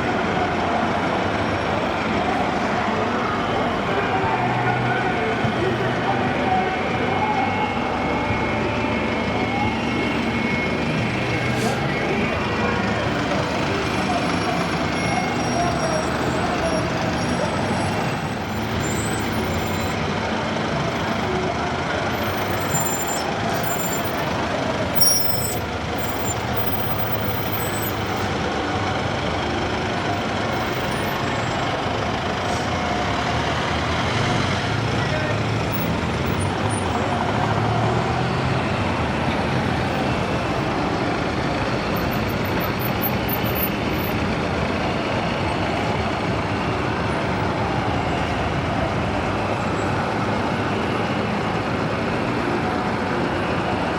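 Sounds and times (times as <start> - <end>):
vehicles driving past: 0.0 - 53.9.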